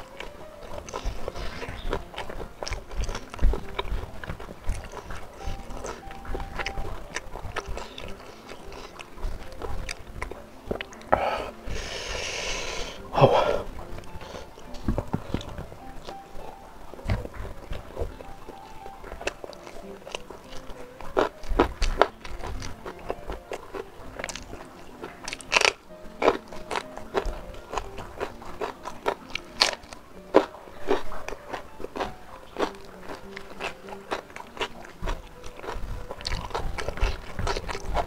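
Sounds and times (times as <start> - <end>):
crunching and chewing: 0.0 - 38.0
faint background music: 0.0 - 38.0.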